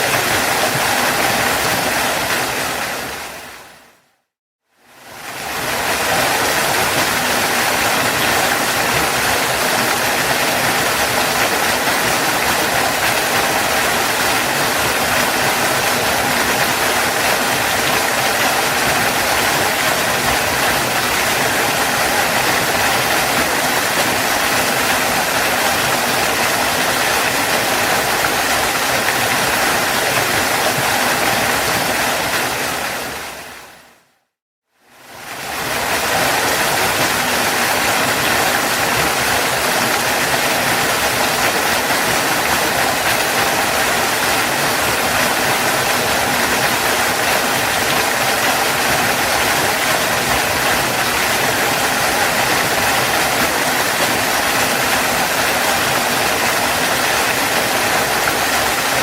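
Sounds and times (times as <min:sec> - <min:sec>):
waterfall rushing: 0:00.0 - 0:04.0, 0:05.0 - 0:34.0, 0:35.0 - 0:59.0.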